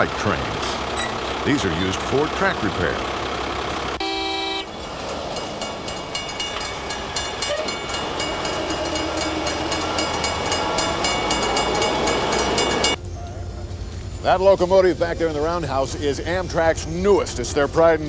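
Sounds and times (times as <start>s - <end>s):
truck running rumble: 0.0s - 18.0s
wheels clicking and rattling on track: 0.0s - 18.0s.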